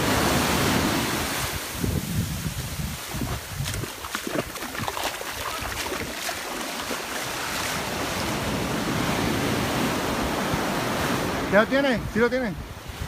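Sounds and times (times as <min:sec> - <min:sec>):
surf washing up a beach: 0:00.0 - 0:13.0
wind rumbling on microphone: 0:00.0 - 0:13.0.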